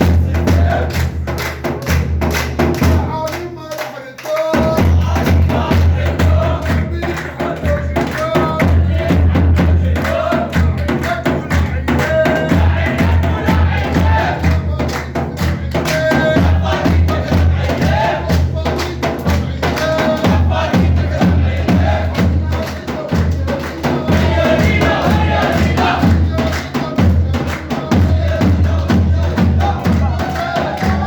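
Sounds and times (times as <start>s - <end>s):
driving drum beat: 0.0s - 3.7s, 4.4s - 31.0s
man chanting: 2.8s - 31.0s.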